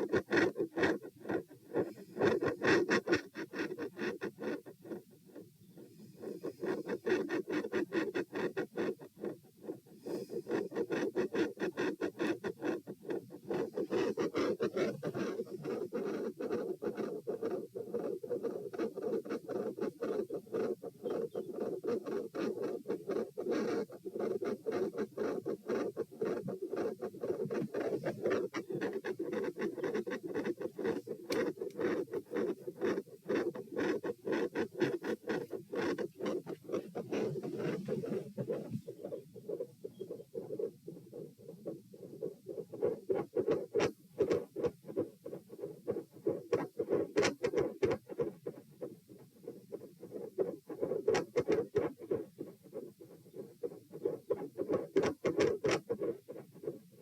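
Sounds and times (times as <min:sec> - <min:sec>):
stethoscope rubbing: 0:00.0 - 0:05.4, 0:06.2 - 0:56.9.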